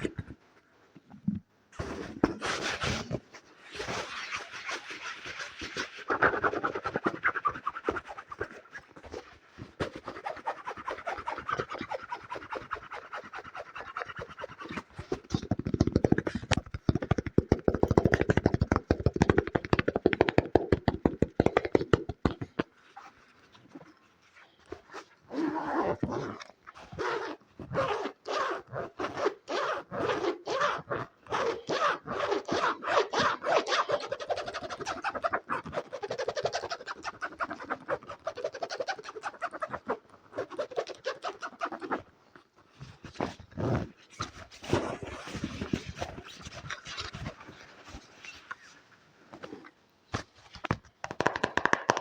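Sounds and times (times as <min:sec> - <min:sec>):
close rubbing and scratching: 0:01.2 - 0:52.0.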